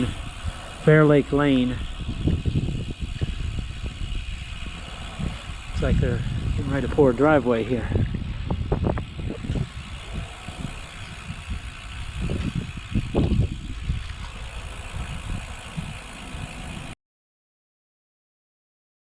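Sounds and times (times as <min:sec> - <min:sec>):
bicycle road noise: 0:00.0 - 0:17.0
wind buffeting microphone: 0:00.0 - 0:17.0.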